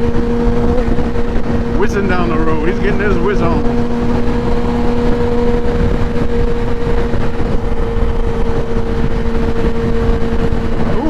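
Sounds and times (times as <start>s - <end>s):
motorcycle engine cruising: 0.0s - 11.0s
wind rumble on microphone: 0.0s - 11.0s.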